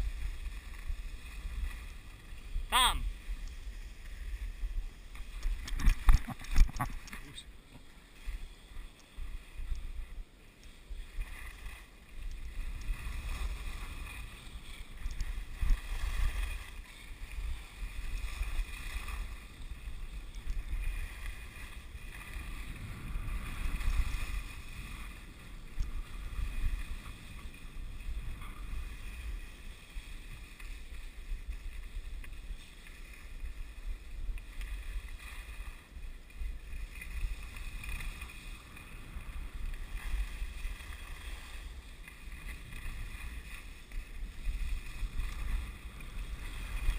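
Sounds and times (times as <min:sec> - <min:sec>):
skis carving packed snow: 0:00.0 - 0:46.9.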